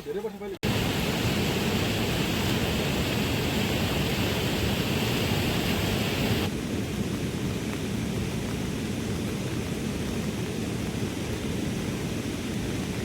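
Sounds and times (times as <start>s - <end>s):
heavy rain: 0.6s - 13.0s.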